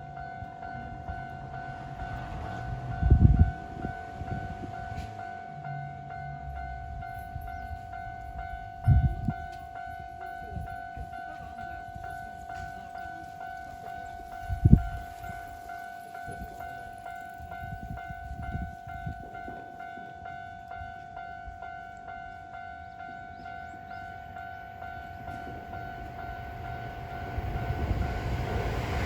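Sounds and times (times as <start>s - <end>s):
railway crossing bell: 0.0s - 29.0s.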